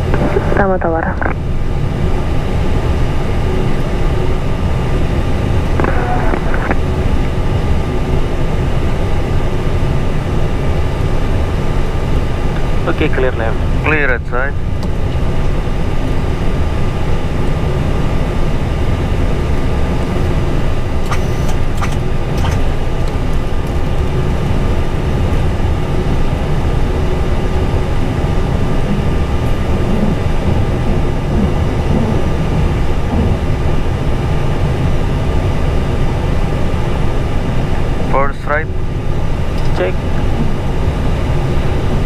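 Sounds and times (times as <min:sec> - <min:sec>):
faint steady whine: 0:00.0 - 0:42.0
jet engines rumbling: 0:00.0 - 0:42.0.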